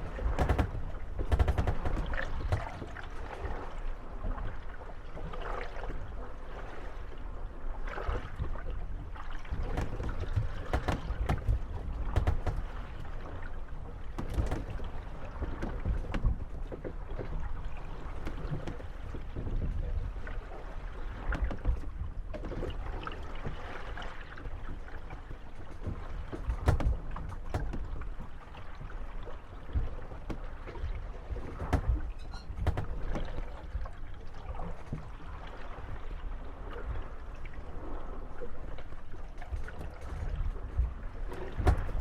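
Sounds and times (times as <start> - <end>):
boat hulls creaking and knocking: 0.0 - 7.3, 7.9 - 42.0
water waves: 0.0 - 42.0.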